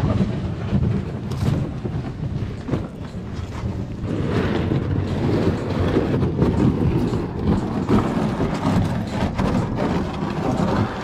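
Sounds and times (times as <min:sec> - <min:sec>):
plastic kayaks scraping over gravel: 0:00.0 - 0:11.0.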